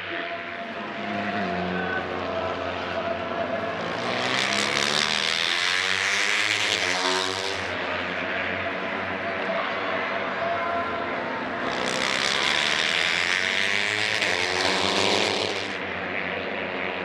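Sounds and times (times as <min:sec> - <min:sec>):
race motorcycles passing at high revs: 0:00.0 - 0:17.0.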